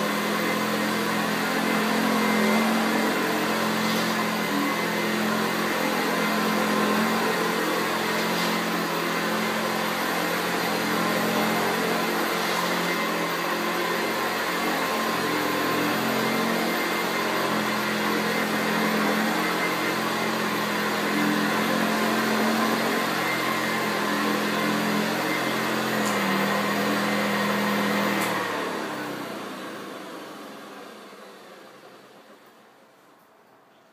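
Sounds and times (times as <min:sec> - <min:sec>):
vacuum cleaner running on carpet: 0:00.0 - 0:32.7.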